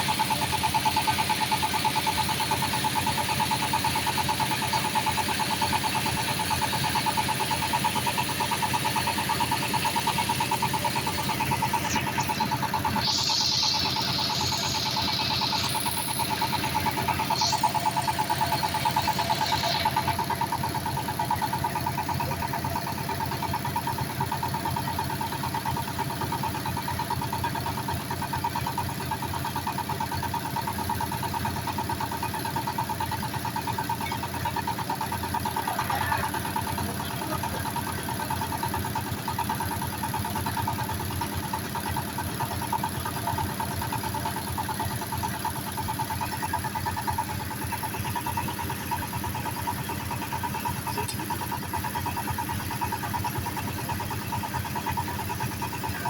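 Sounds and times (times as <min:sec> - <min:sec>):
drilling machine engine running: 0:00.0 - 0:56.0.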